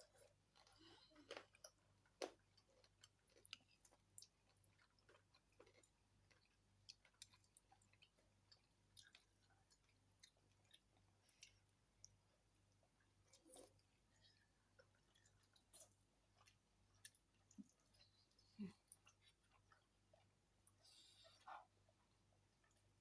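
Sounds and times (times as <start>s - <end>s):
faint low hum: 0.0s - 23.0s
person chewing food: 0.0s - 23.0s.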